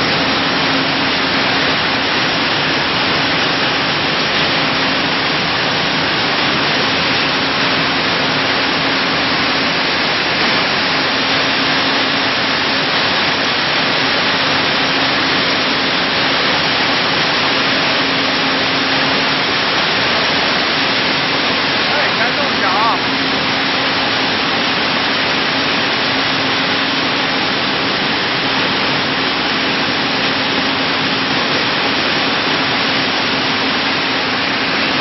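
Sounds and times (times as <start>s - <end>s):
dehulling machine running: 0.0s - 35.0s
low machine hum: 0.0s - 35.0s.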